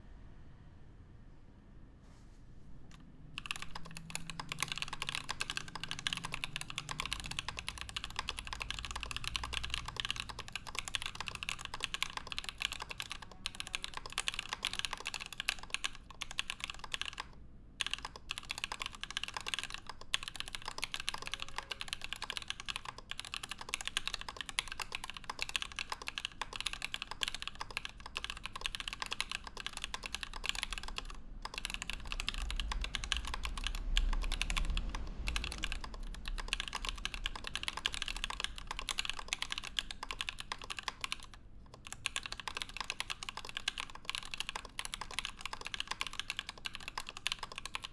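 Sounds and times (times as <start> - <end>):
fast typing on mechanical keyboard: 2.9 - 47.9.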